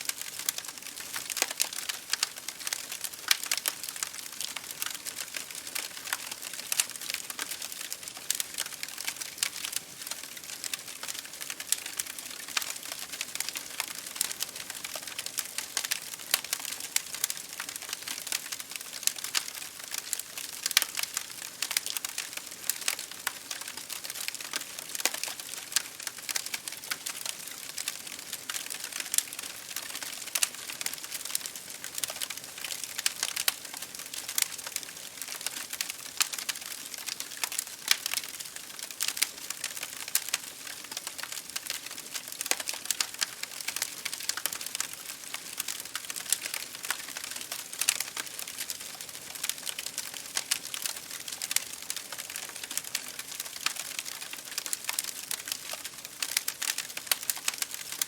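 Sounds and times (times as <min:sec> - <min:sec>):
rain drops hitting a window: 0:00.0 - 0:58.0
wood fire crackling: 0:00.0 - 0:58.0.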